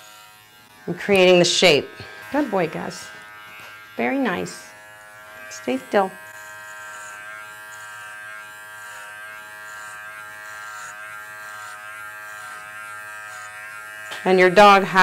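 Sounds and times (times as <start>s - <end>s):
dog clipper buzzing: 0.0s - 15.0s.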